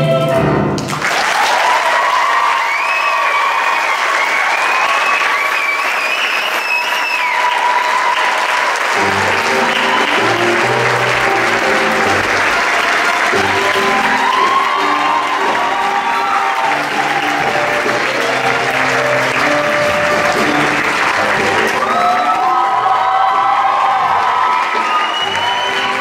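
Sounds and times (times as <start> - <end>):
live theatre music: 0.0 - 26.0
audience applauding: 0.8 - 26.0.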